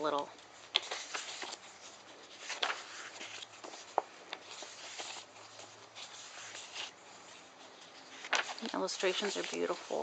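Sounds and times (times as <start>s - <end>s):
book pages rustling: 0.0s - 10.0s.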